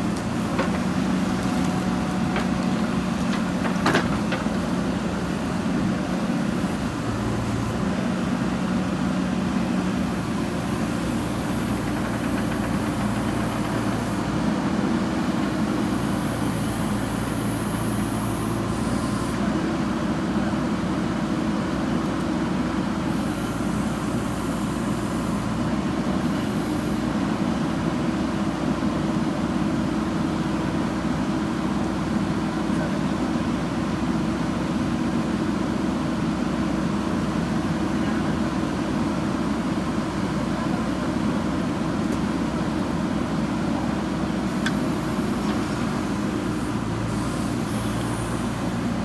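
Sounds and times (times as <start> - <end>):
diesel engine running: 0.0 - 49.0.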